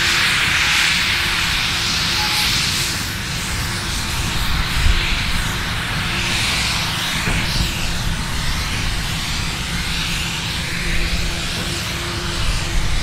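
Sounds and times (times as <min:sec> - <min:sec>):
low locomotive rumble: 0:00.0 - 0:13.0
steam locomotive hiss: 0:00.0 - 0:13.0.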